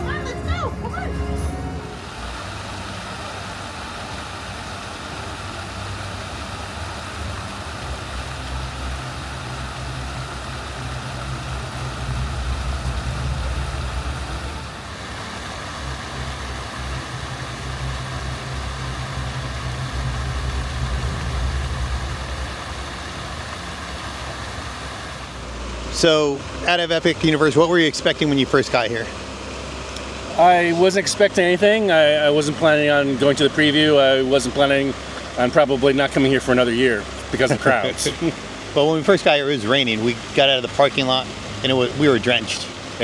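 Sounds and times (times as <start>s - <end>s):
vehicle engine running: 0.0s - 43.0s.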